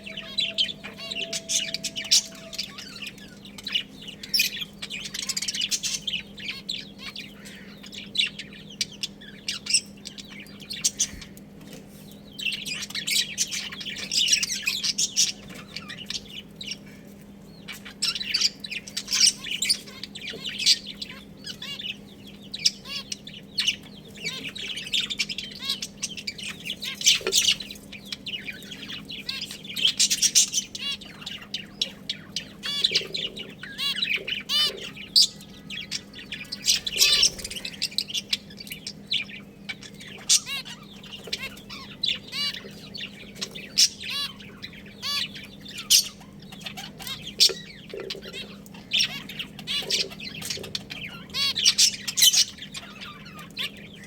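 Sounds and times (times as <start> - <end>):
budgerigars chirping: 0.0 - 54.0
faint low hum: 0.0 - 54.0.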